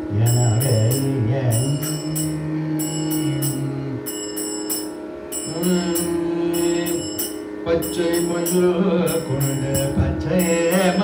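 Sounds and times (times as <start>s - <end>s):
man singing: 0.0s - 4.2s, 5.4s - 11.0s
steady drone: 0.0s - 11.0s
jingling rhythm: 0.1s - 11.0s.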